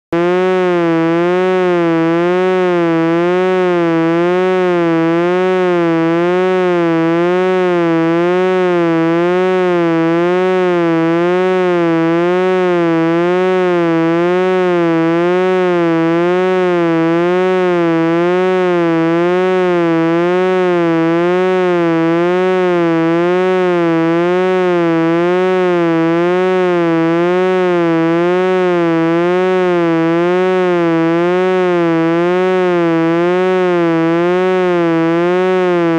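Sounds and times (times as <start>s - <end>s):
wobbling electronic tone: 0.2s - 35.9s.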